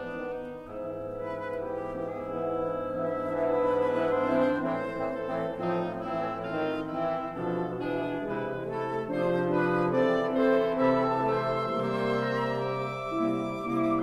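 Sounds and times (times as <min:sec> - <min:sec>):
french horns: 0:00.0 - 0:14.0
wind ensemble chamber music: 0:00.0 - 0:14.0.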